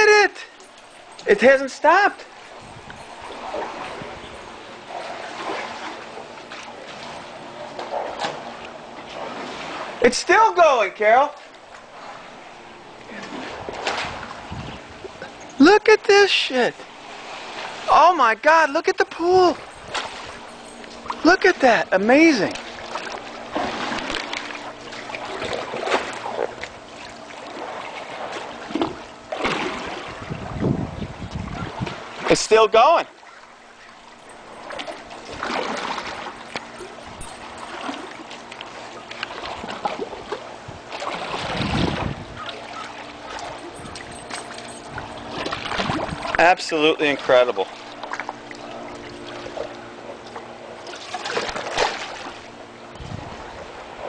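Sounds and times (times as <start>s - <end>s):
pool water sloshing and lapping: 0.0s - 54.0s.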